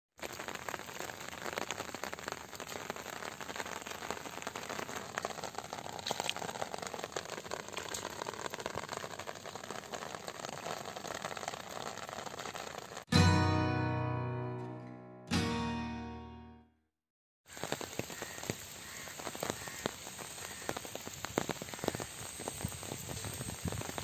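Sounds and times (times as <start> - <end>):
rain falling on shallow water: 0.1 - 13.1, 17.5 - 24.0.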